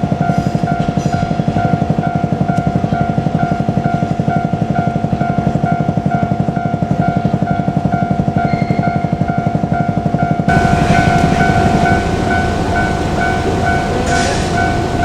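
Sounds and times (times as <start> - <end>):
level crossing warning bell: 0.0 - 15.0
railcar diesel engine running: 0.0 - 15.0.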